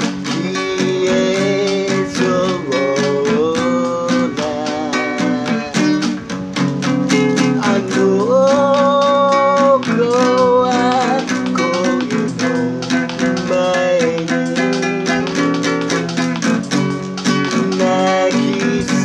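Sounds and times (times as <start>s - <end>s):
classical guitar strumming: 0.0s - 19.0s
man singing: 0.0s - 19.0s.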